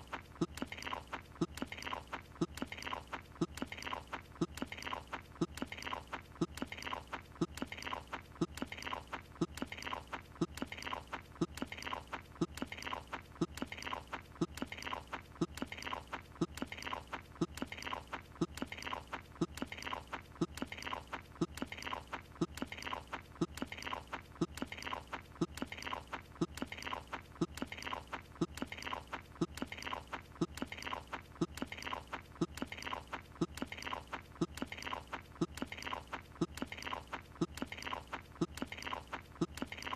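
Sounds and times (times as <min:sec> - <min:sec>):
cartoon chewing sound effect: 0:00.0 - 0:39.9.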